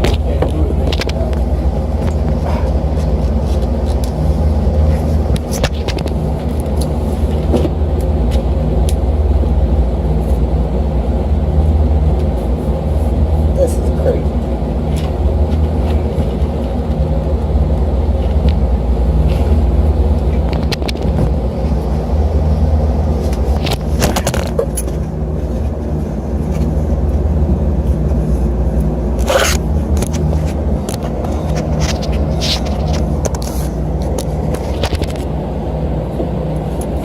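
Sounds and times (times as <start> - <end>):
hvac unit humming: 0.0 - 37.0.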